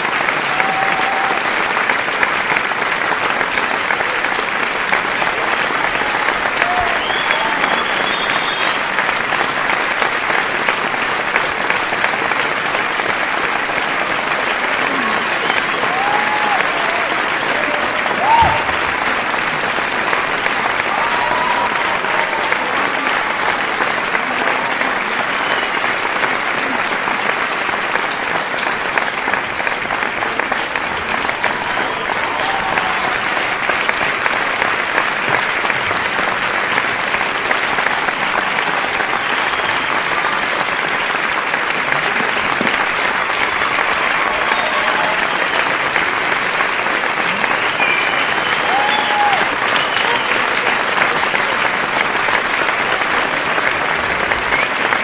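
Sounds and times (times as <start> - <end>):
crowd applauding: 0.0 - 55.0.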